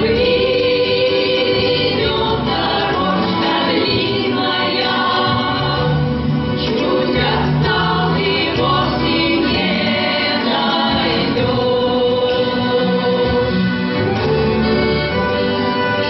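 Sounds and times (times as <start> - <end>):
folk choir singing: 0.0 - 14.3
instrumental accompaniment: 0.0 - 16.0.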